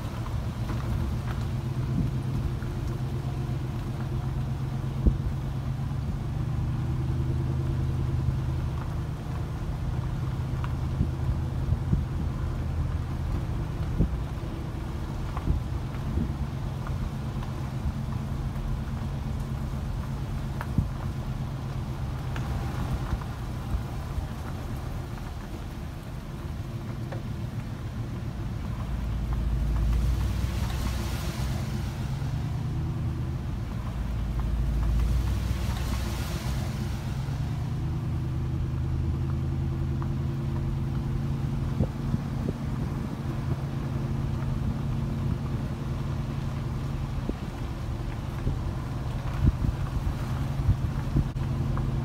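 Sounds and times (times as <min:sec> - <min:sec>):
road and engine rumble inside car: 0:00.0 - 0:52.0
vehicle passing with a rush: 0:00.0 - 0:52.0.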